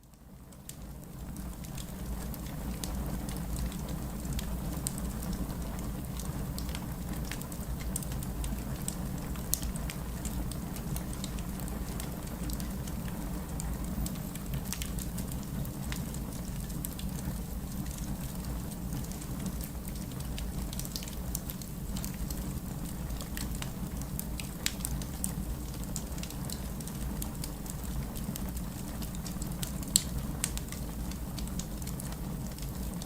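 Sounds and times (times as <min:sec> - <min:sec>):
steady rain: 0:00.0 - 0:33.0
wood fire crackling: 0:00.2 - 0:33.0.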